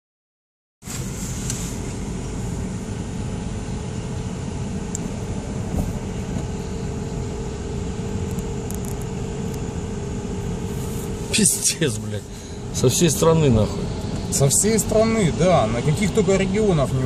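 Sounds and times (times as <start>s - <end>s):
car engine rumble from inside: 0.8s - 17.0s
surrounding traffic: 0.8s - 17.0s
steady mid-pitched hum: 0.9s - 17.0s.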